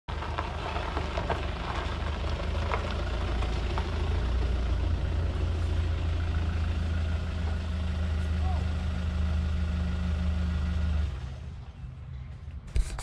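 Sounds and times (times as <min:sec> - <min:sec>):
vehicle engine idling: 0:00.1 - 0:12.7.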